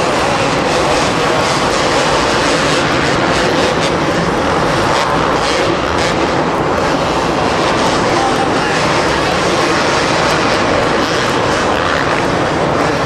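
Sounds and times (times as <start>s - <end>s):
motorcycle engines buzzing: 0.0s - 13.0s.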